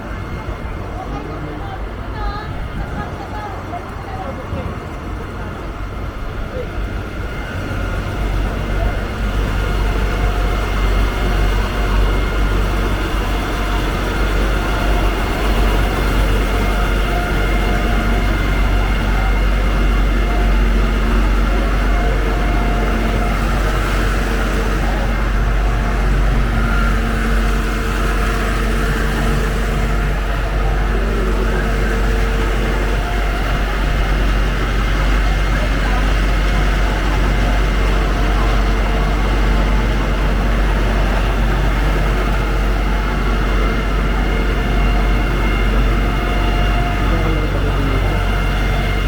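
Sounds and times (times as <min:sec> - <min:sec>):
low rumble of traffic: 0:00.0 - 0:49.0.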